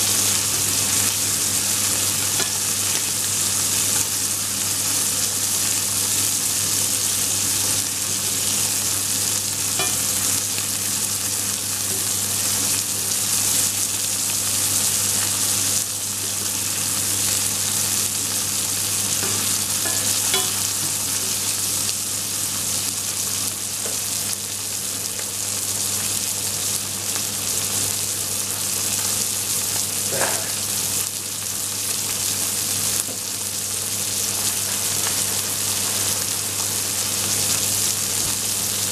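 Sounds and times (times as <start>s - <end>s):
steak sizzling in skillet: 0.0s - 38.9s.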